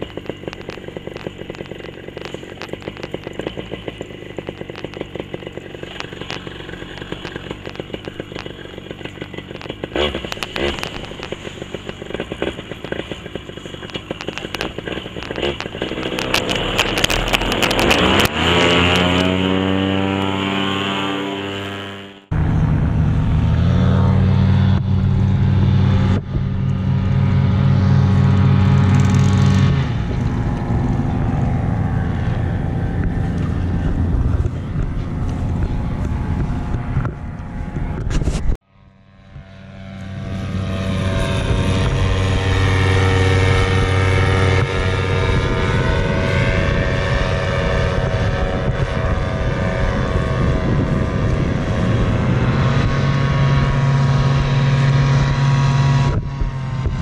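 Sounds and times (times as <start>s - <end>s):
paramotor engine running: 0.0s - 57.0s.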